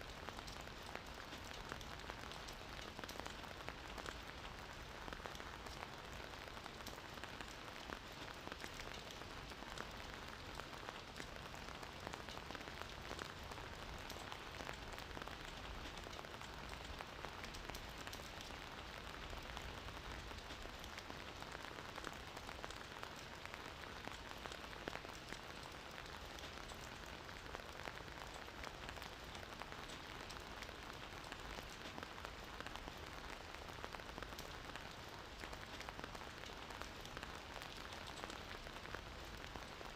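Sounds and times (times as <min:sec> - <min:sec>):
gentle rainfall: 0:00.0 - 0:39.9.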